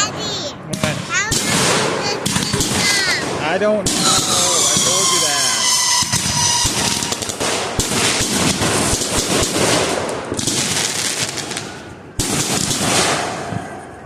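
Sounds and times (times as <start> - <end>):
fireworks cracking and crackling: 0.0 - 14.0.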